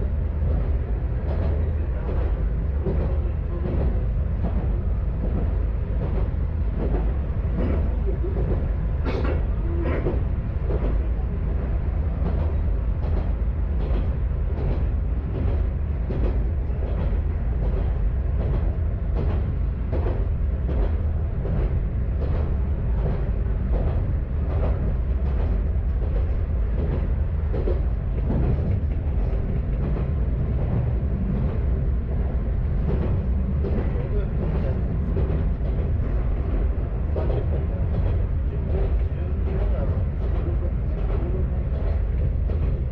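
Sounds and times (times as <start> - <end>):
diesel railcar engine rumble: 0.0 - 42.9.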